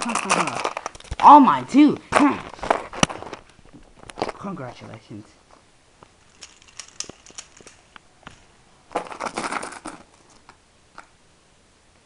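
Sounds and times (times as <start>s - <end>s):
rustling of plush toys: 0.0s - 11.1s.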